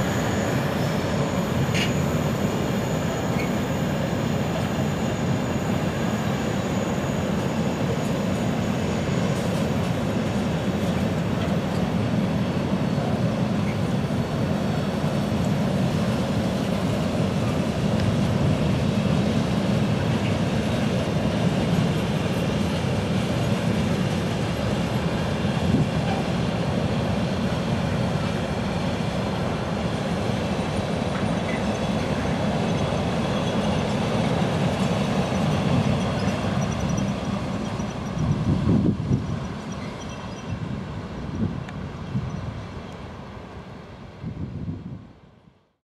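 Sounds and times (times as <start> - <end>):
freight train wheels rumbling: 0.0 - 45.7.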